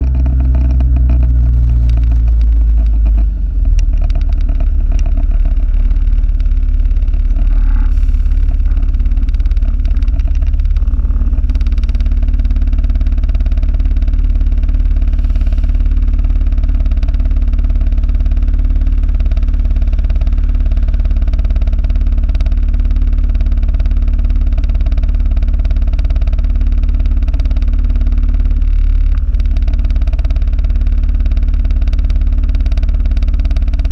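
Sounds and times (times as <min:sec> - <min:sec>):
vehicle low rumble: 0:00.0 - 0:33.9.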